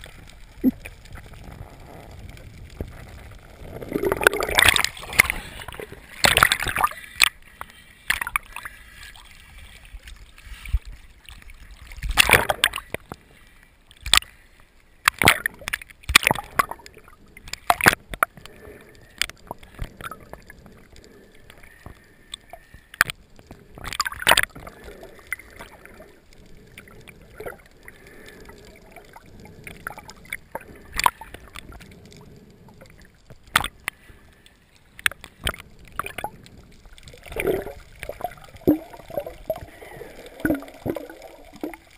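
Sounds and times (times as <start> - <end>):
muffled underwater wash: 0.0 - 41.9
water splashing: 0.0 - 41.9.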